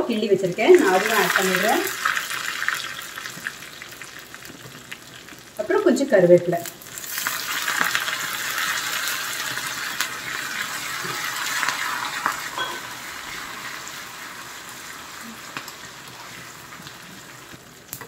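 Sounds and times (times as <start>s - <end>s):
spices sizzling in hot oil: 0.0s - 18.0s.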